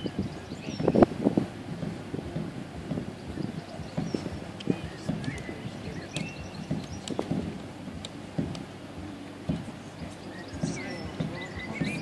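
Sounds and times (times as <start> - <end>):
crowd ambience: 0.0 - 12.0
low rumble: 0.0 - 12.0
soft thuds and knocks: 0.0 - 12.0.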